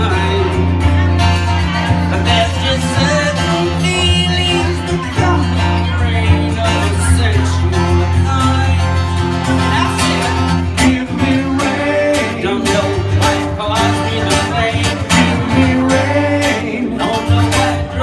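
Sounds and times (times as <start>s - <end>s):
plucked acoustic guitar: 0.0s - 18.0s
steady low bass line: 0.0s - 18.0s.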